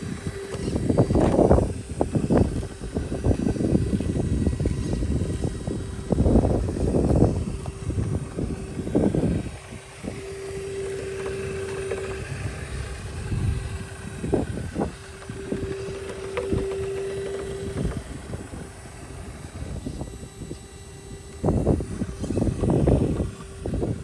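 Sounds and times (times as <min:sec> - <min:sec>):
electric motor and gears whining: 0:00.0 - 0:24.0.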